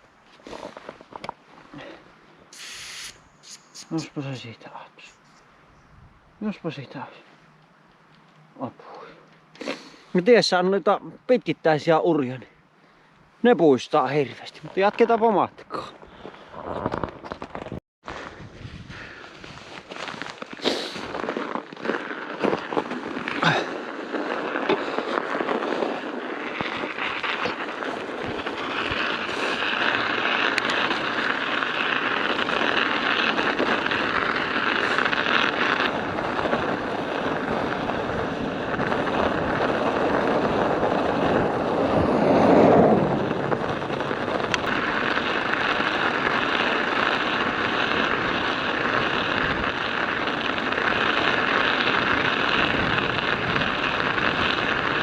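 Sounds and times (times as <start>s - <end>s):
studded bicycle tyres crunching on ice: 0.0s - 3.0s, 13.6s - 55.0s.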